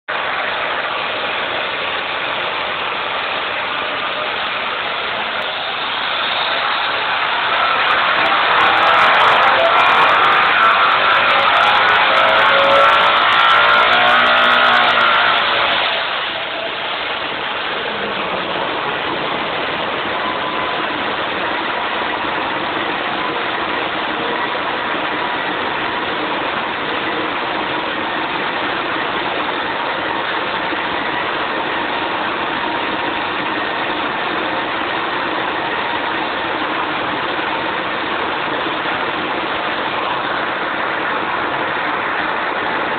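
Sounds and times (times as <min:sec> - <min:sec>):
car engine revving on dyno: 0:00.1 - 0:42.9.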